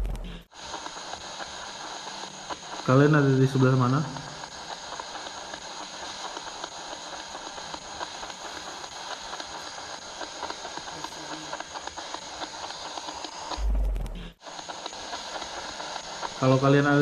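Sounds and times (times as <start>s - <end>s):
radio static hiss: 0.0s - 17.0s
rapid clicks: 0.0s - 17.0s.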